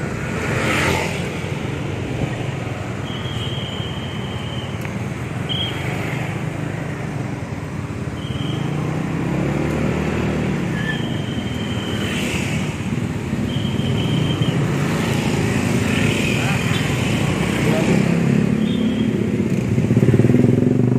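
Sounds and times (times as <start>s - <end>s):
scooter engines and cars: 0.0s - 20.9s.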